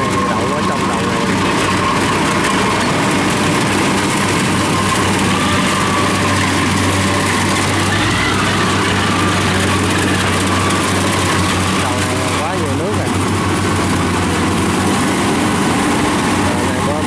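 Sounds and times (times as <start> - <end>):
combine harvester engines droning: 0.0 - 17.0.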